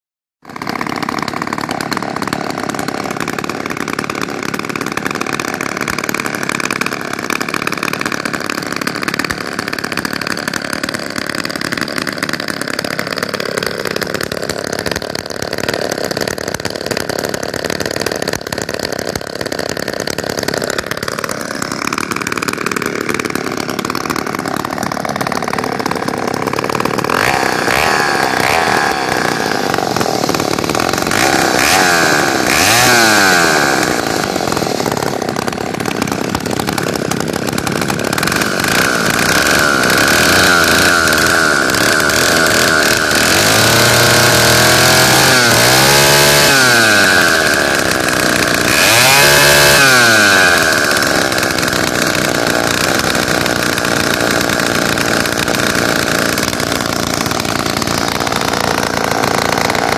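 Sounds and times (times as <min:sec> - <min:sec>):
chainsaws idling: 0:00.4 - 0:59.9.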